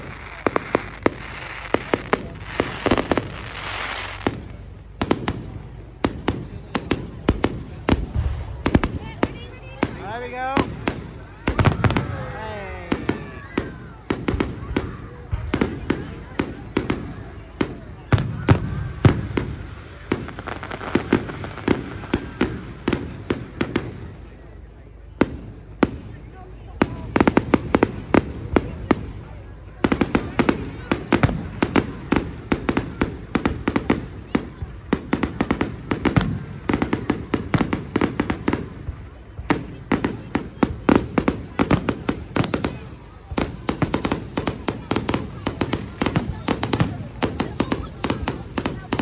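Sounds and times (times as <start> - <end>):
fireworks hissing crackle: 0.0 - 24.4, 26.8 - 49.0
fireworks bangs and pops: 0.0 - 49.0.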